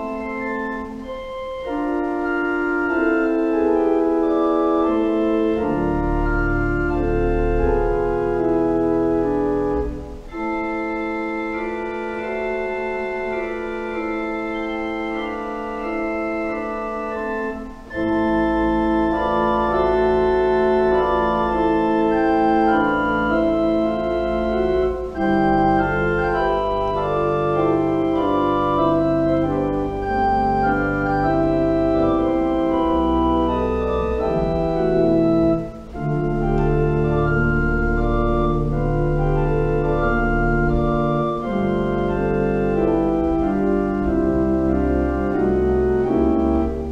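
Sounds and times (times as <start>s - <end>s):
church organ chords: 0.0s - 46.9s.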